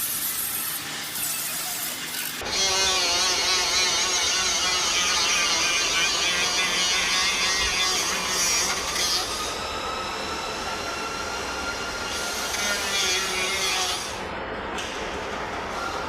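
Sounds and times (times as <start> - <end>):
power tool whining: 1.2 - 14.1.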